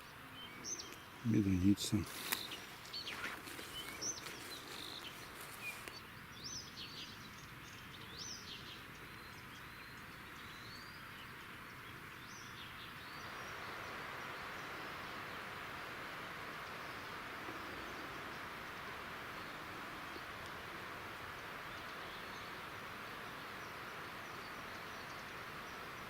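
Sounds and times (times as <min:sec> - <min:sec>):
songbirds chirping: 0:00.0 - 0:26.0
steady background hiss: 0:00.0 - 0:26.0.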